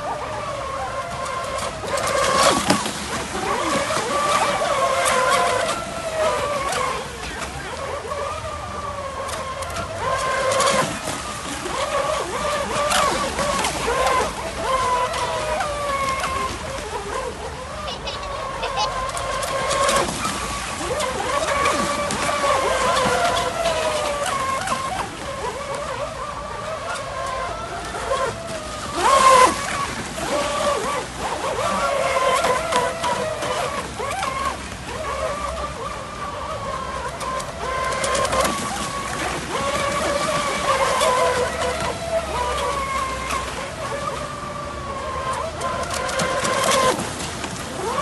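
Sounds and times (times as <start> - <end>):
toy boat motor whining: 0.0 - 48.0
water splashing from hull: 0.0 - 48.0.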